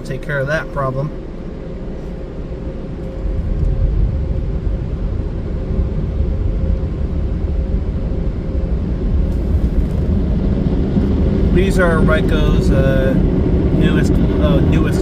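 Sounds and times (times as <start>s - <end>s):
car wash blowers rumbling: 0.0s - 15.0s
steady hum: 0.0s - 15.0s.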